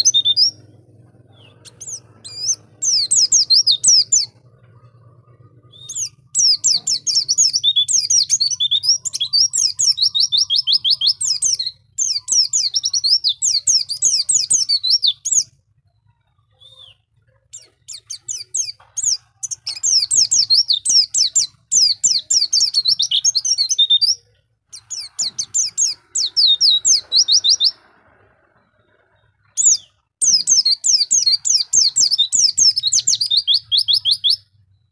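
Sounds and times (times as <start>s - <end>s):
bird twittering song: 0.0s - 34.9s.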